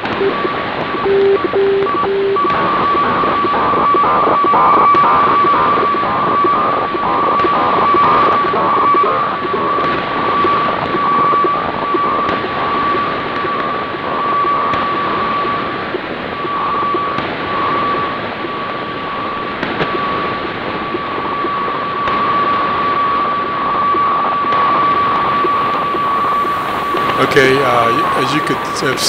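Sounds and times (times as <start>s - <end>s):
hissing radio static: 0.0s - 29.0s
radiofax steady tone: 0.0s - 29.0s.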